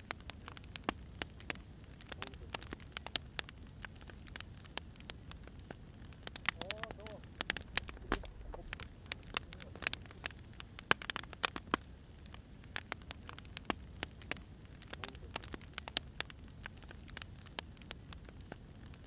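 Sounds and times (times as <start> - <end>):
firewood crackling and popping: 0.0 - 19.0
low rumble of fire: 0.0 - 19.0.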